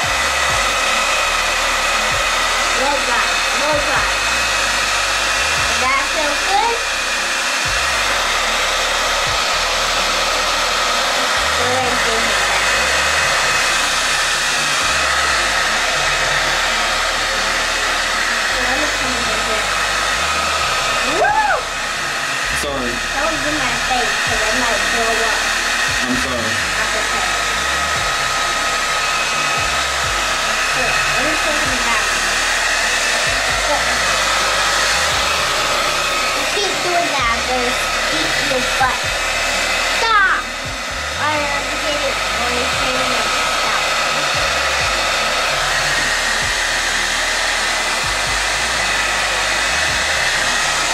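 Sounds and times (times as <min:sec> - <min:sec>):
blow dryer running: 0:00.0 - 0:50.9.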